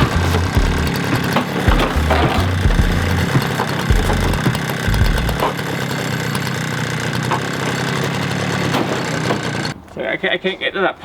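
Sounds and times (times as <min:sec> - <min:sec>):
power saw cutting through steel: 0:00.0 - 0:10.1.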